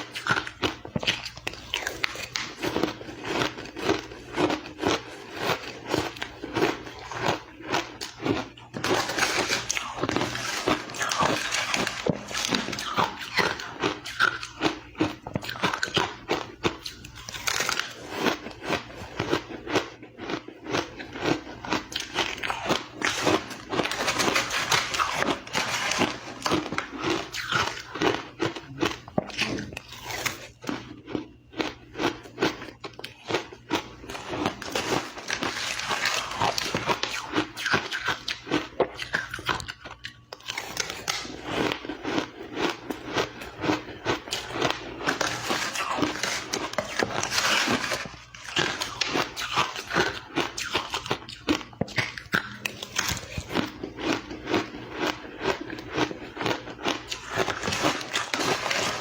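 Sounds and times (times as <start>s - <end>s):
person chewing ice: 0.0s - 59.0s.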